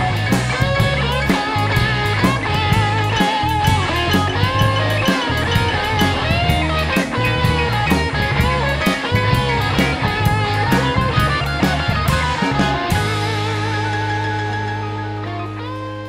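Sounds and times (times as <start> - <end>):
bass guitar: 0.0 - 16.0
drum kit: 0.0 - 16.0
electric guitar bent notes: 0.0 - 16.0.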